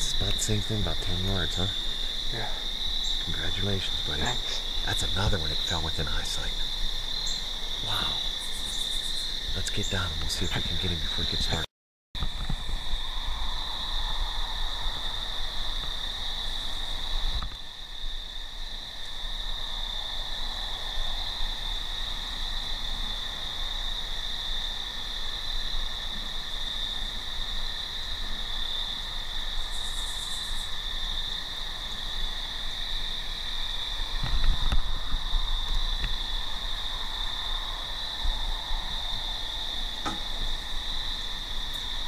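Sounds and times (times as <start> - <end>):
insects trilling: 0.0 - 42.0.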